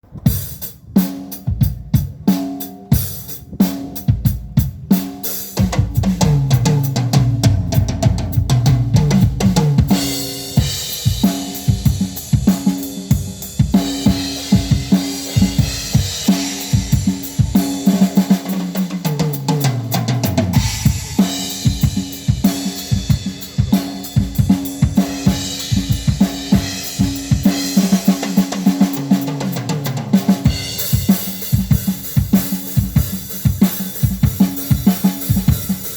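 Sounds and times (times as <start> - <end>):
drum kit playing a beat: 0.0 - 35.9.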